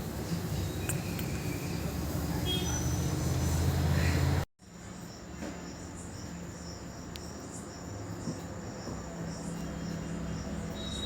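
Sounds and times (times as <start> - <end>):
crickets chirping: 0.1 - 11.0.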